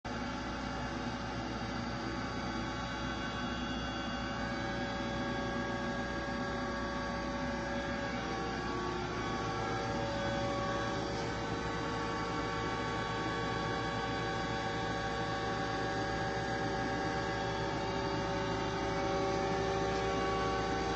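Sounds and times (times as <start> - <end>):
lathe machine hum: 1.9 - 20.9.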